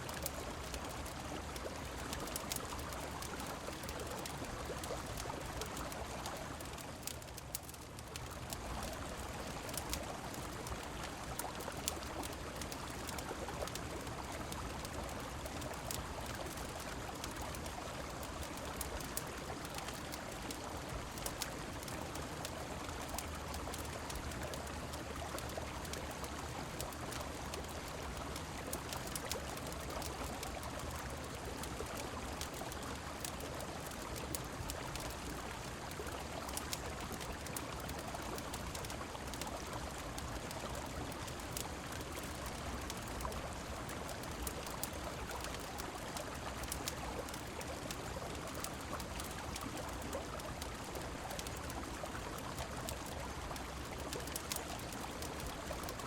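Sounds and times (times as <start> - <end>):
rain falling: 0.0 - 56.0
wood fire crackling: 0.1 - 56.0.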